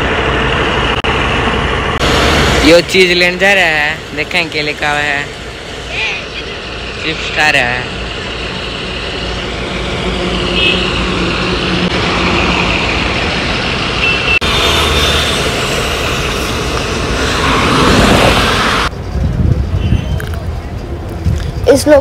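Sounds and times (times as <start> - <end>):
vehicle engines passing: 0.0 - 22.0.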